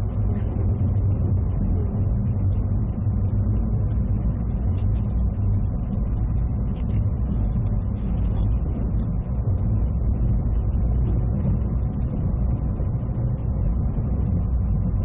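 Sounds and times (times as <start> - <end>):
train cabin low rumble: 0.0 - 15.0.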